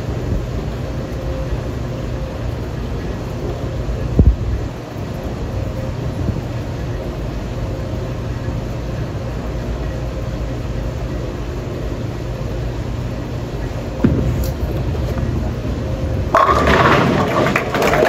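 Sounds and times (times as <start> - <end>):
bowling alley low rumble: 0.0 - 18.0.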